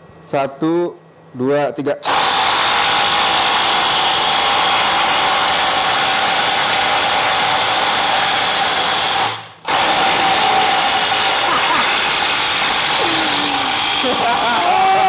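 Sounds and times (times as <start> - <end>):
impact drivers hammering into wood: 2.0 - 14.7.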